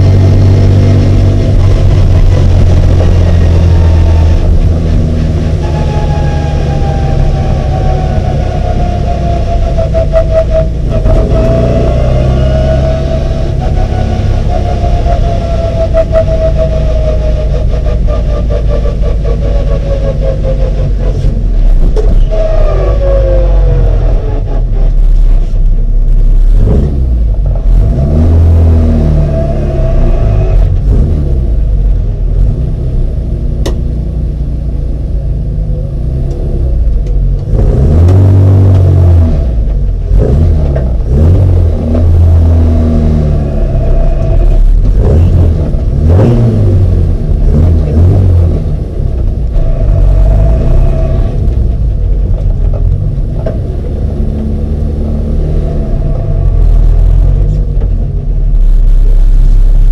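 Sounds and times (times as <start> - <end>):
racing car engine revving: 0.0 - 33.9, 34.6 - 59.9.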